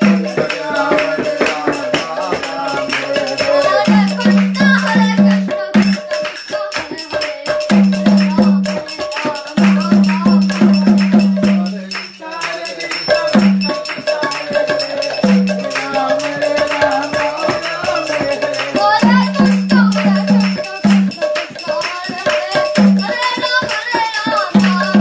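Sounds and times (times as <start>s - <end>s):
hand drum beaten quickly: 0.0s - 25.0s
jingling percussion: 0.0s - 25.0s.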